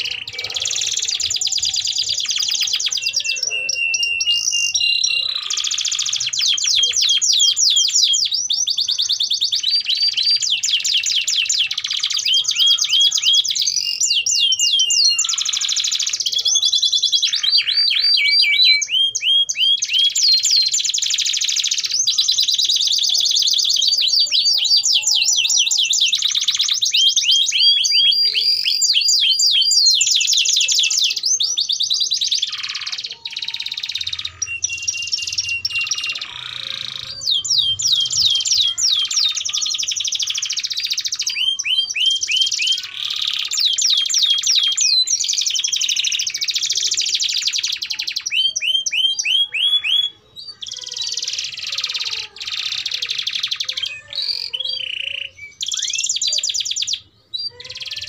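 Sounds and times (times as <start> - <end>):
canaries singing trills: 0.0 - 58.0.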